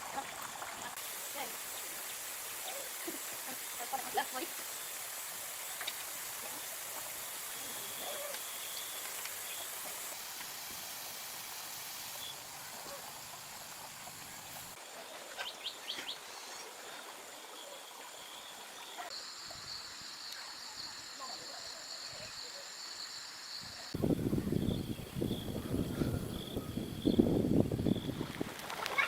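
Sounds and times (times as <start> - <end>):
steady outdoor hiss: 0.0 - 29.0.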